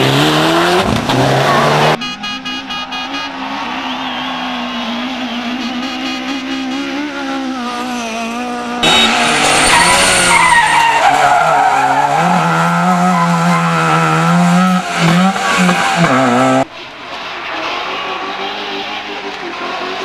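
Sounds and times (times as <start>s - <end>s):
rally car engines revving: 0.0s - 20.0s
tyres skidding: 0.0s - 20.0s.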